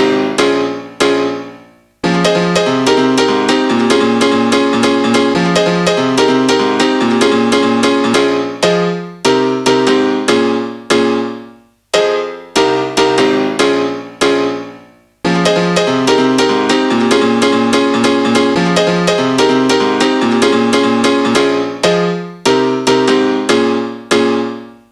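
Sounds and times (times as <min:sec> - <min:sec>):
keyboard playing repeated chords: 0:00.0 - 0:24.9.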